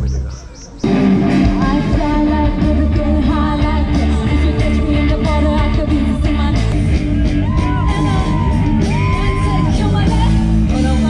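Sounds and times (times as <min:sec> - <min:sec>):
drums: 0:00.0 - 0:11.0
heavy bass: 0:00.0 - 0:11.0
live rock band playing: 0:00.8 - 0:11.0
person singing: 0:01.3 - 0:11.0.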